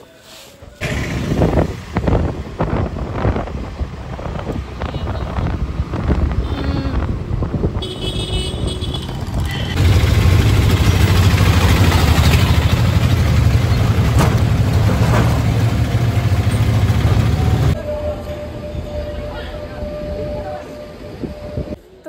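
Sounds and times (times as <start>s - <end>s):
engine and road rumble: 0.6s - 21.9s.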